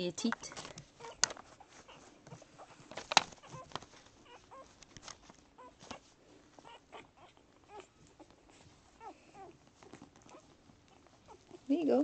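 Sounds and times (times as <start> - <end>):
puppies squeaking and grunting: 0.4 - 12.0.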